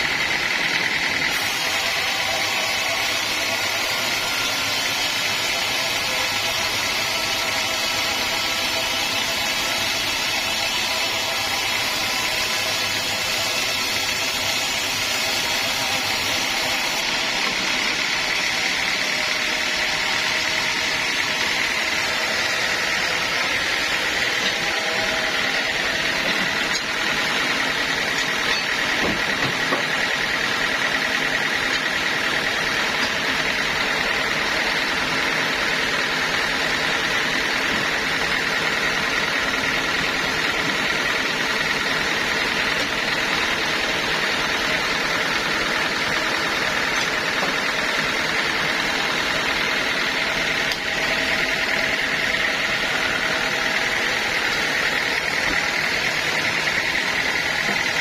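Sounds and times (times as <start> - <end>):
high machine whine: 0.0 - 58.0
sawmill machinery humming: 0.0 - 58.0.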